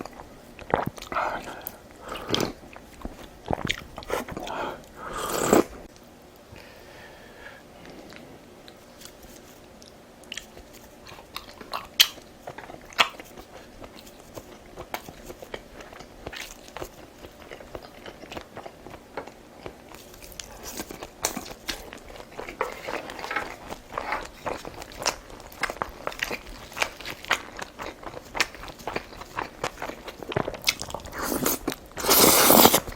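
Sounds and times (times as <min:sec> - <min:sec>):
person biting and chewing food: 0:00.0 - 0:05.9, 0:08.8 - 0:32.9.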